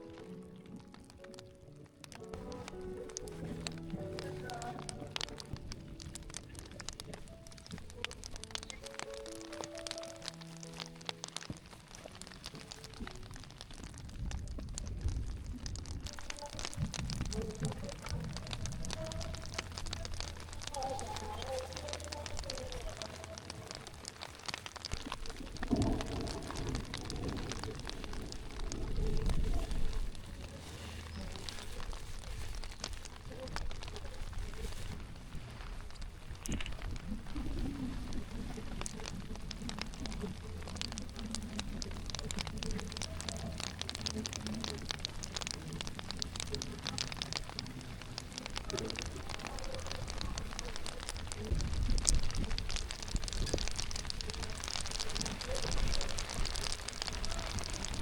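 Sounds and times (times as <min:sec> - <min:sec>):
heavy rain pattering: 0:00.0 - 0:58.0
low rumble: 0:10.3 - 0:58.0.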